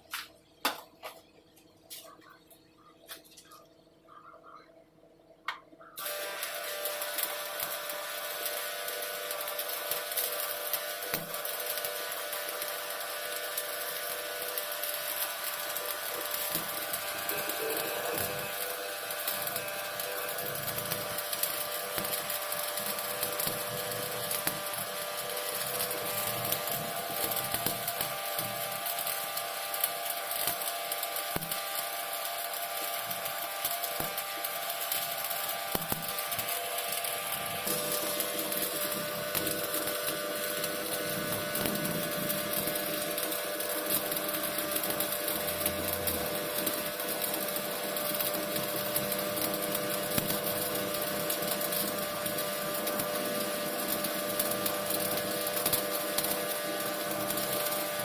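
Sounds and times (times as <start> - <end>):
welding arc crackling and sizzling: 0.0 - 4.7, 5.3 - 58.0.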